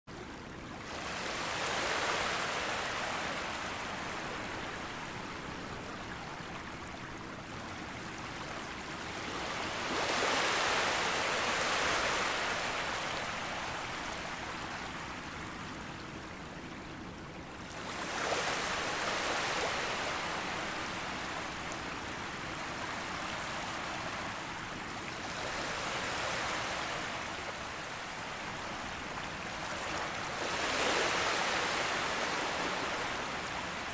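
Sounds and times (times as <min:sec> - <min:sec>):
sea waves breaking on beach: 0:00.8 - 0:07.0, 0:07.9 - 0:15.5, 0:17.7 - 0:33.9.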